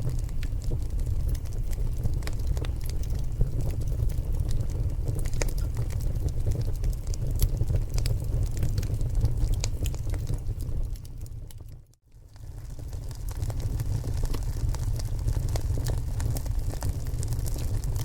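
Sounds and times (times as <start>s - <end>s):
logs crackling and popping: 0.0s - 18.0s
low rumble of flame: 0.0s - 18.0s.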